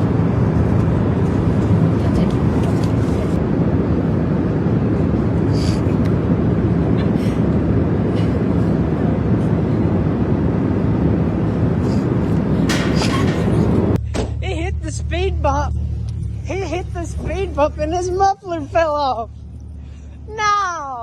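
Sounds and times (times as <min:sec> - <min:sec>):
loud low rumbling: 0:00.0 - 0:21.0.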